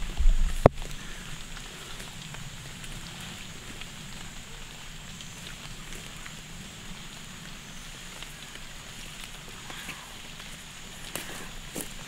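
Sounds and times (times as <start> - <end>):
light rain pattering on leaves: 0.0 - 12.0.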